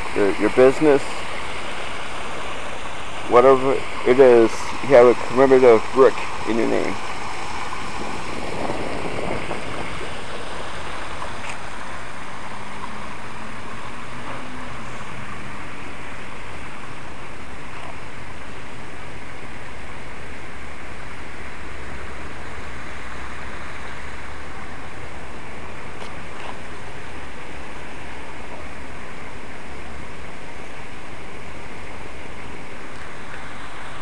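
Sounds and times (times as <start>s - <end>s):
fountain water splashing: 0.0s - 34.0s.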